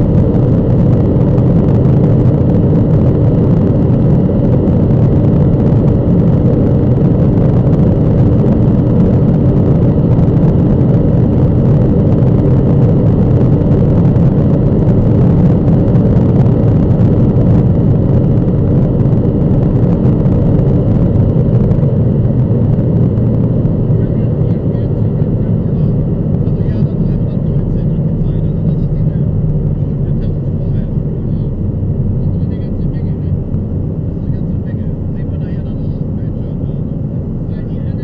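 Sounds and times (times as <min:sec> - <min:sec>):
car engine droning: 0:00.0 - 0:38.0
wind and tyre noise: 0:00.0 - 0:38.0.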